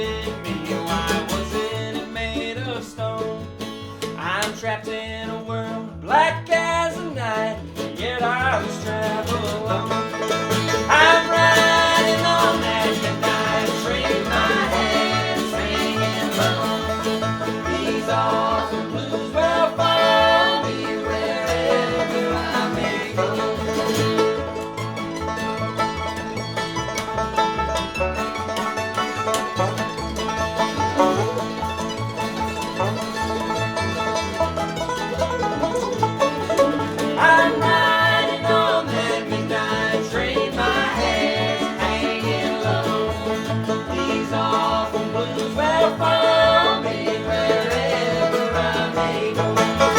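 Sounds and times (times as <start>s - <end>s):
country string-band music: 0.0s - 49.9s.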